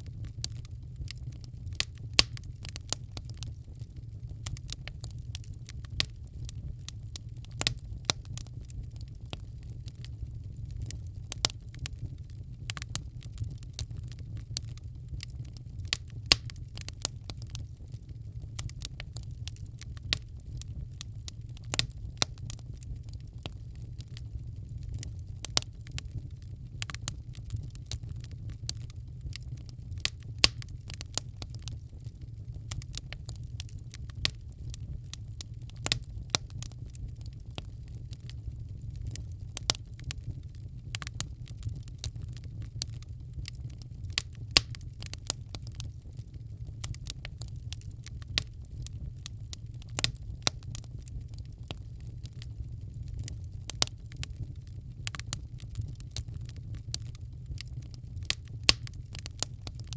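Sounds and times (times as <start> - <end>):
fire rumbling: 0.0 - 59.9
logs crackling and popping: 0.0 - 59.9.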